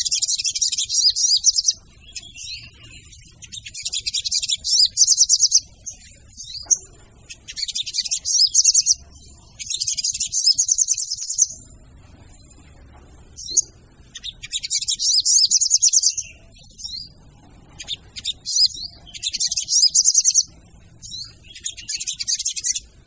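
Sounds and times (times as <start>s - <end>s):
bird high chattering calls: 0.0s - 11.8s, 13.4s - 23.0s.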